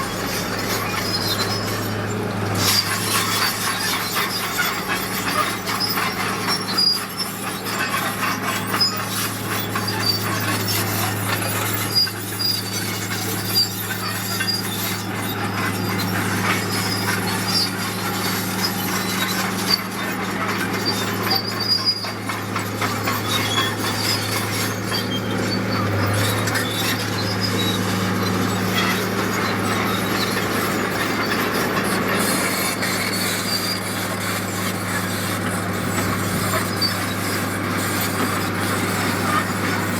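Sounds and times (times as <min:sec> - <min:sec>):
diesel engine drone: 0:00.0 - 0:39.9
metallic track squeals and clanks: 0:00.0 - 0:39.9.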